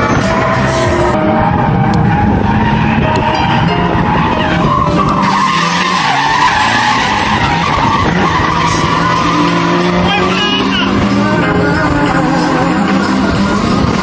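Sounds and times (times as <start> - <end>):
car engine running hard: 0.0 - 14.0
tyres screeching on asphalt: 0.0 - 14.0.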